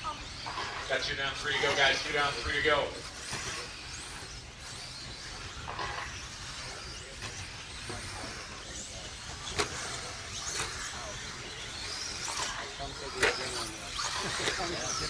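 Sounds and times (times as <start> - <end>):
rc truck motor whines: 0.0 - 15.0.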